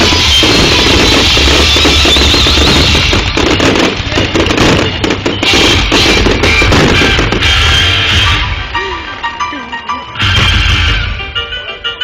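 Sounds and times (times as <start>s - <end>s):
fireworks bangs and crackles: 0.0s - 9.2s, 10.2s - 11.2s.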